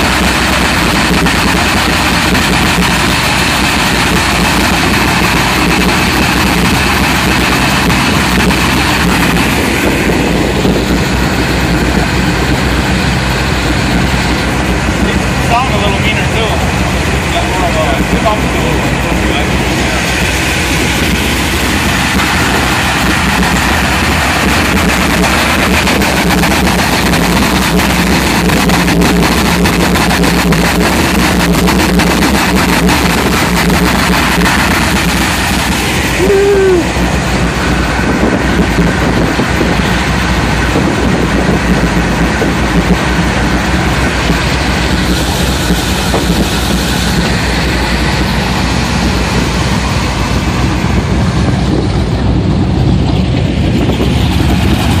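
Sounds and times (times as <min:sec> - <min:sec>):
powerboat engines rumbling: 0:00.0 - 0:55.0.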